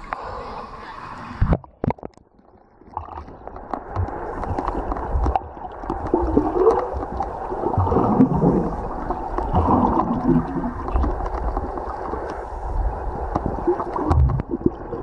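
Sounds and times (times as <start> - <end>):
faint crackles: 0.0 - 15.0
underwater gurgling: 0.0 - 15.0.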